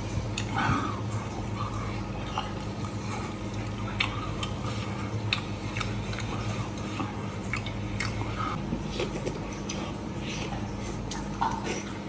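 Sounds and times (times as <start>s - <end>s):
steady low hum: 0.0s - 12.0s
wet chewing and lip-smacking: 0.0s - 12.0s.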